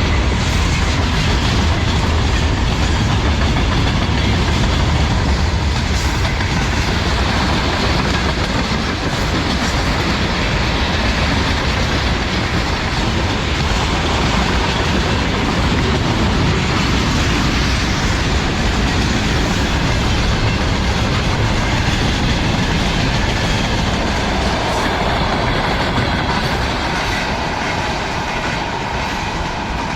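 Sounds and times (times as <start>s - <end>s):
freight train wagons rolling: 0.0s - 29.9s
steel wheels clattering over rail joints: 0.0s - 29.9s.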